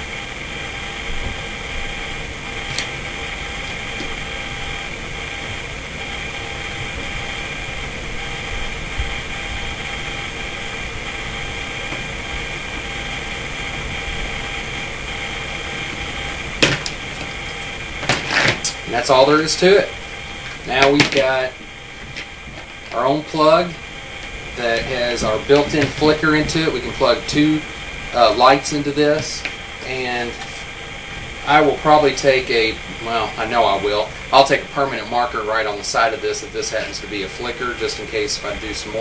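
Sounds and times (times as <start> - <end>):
machine hum with whining tones: 0.0 - 39.0.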